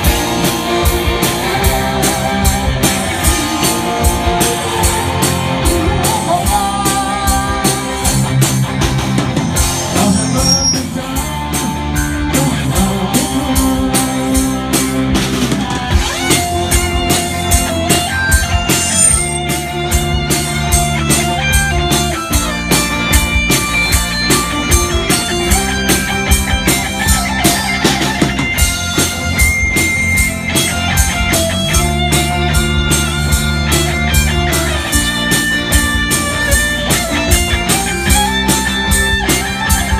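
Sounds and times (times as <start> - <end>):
drum kit beat: 0.0 - 39.9
live rock band playing: 0.0 - 39.9.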